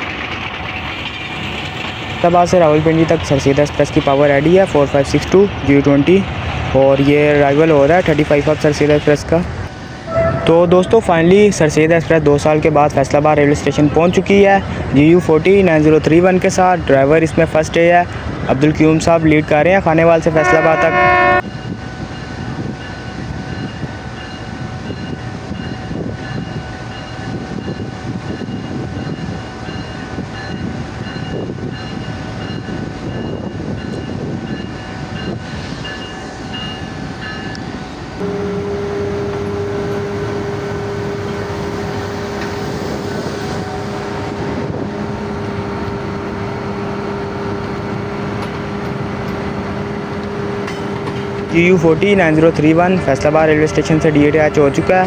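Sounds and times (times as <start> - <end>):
diesel locomotive drone: 0.0 - 55.0
train rumbling past: 0.0 - 55.0.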